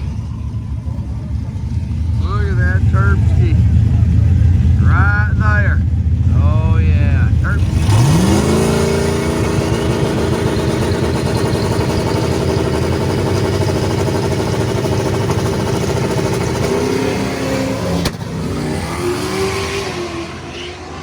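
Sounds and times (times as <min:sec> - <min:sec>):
racing car engine at full throttle: 0:00.0 - 0:21.0.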